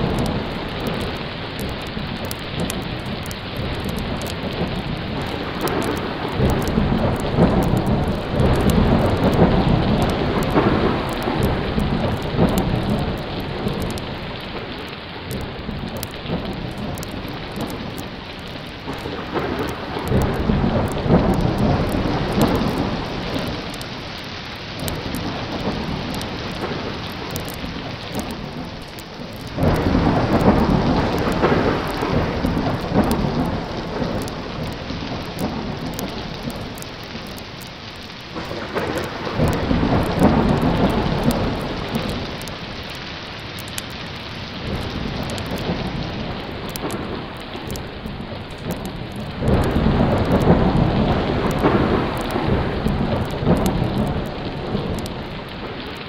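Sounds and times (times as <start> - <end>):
heavy rain: 0.0 - 56.0
rolling thunder: 0.0 - 56.0.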